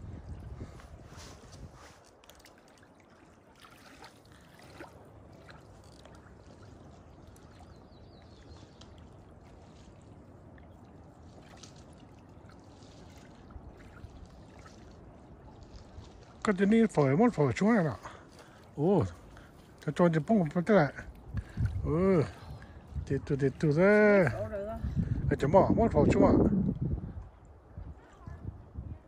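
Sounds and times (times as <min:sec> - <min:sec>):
lake water lapping at shore: 0:00.0 - 0:24.9.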